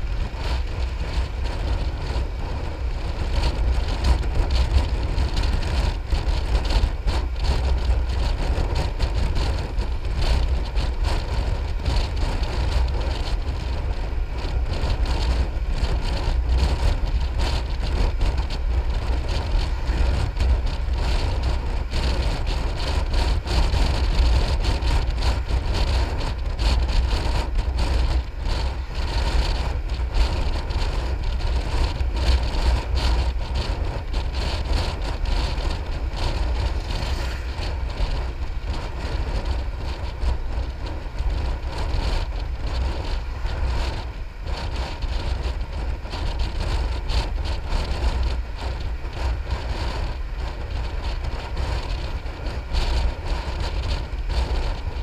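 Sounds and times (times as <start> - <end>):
scooter engine: 0.0 - 55.0
tyres on road: 0.0 - 55.0
wind rushing over microphone: 0.0 - 55.0.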